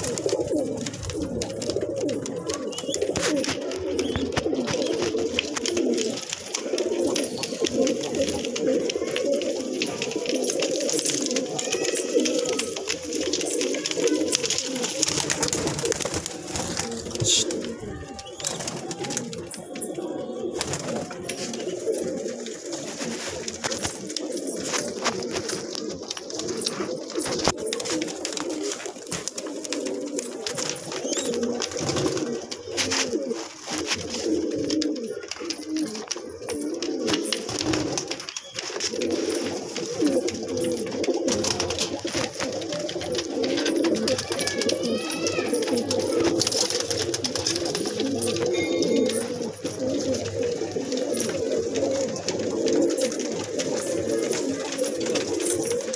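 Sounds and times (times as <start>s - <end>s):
pigeons cooing: 0.0s - 55.9s.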